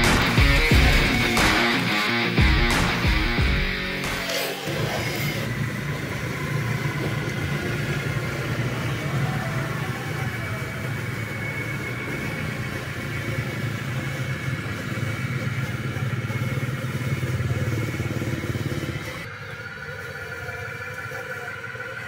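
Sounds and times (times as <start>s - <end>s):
toy truck motor humming: 3.5s - 22.0s.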